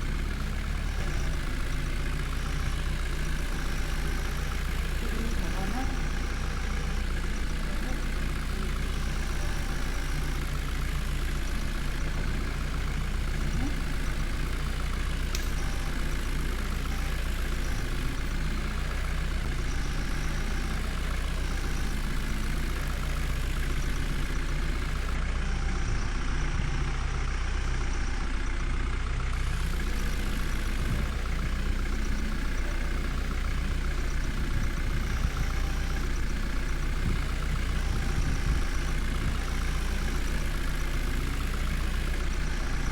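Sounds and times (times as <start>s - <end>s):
diesel engine running steadily: 0.0s - 42.9s.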